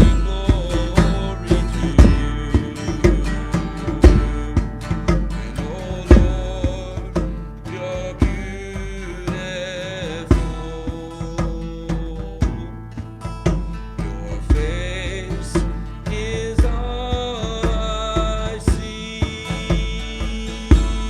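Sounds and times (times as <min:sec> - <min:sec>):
drum kit beat: 0:00.0 - 0:21.0
guitar: 0:00.0 - 0:21.0.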